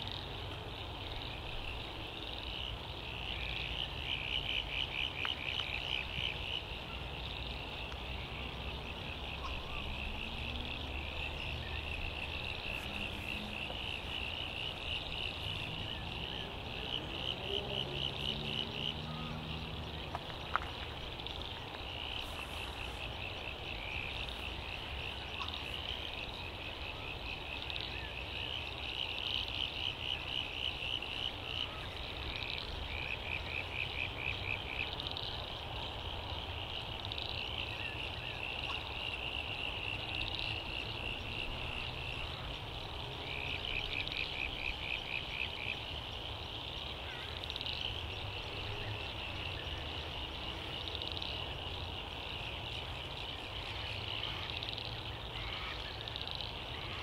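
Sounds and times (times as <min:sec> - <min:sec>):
frogs calling: 0:00.0 - 0:57.0
rapid pulsed frog croaks: 0:00.0 - 0:57.0.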